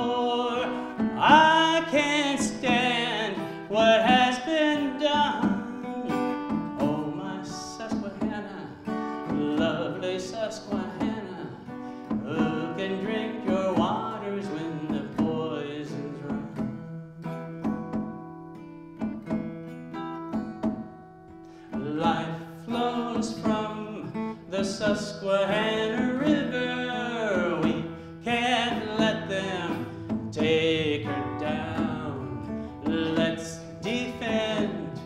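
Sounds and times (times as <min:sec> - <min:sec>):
acoustic guitar picking and strumming: 0:00.0 - 0:35.0.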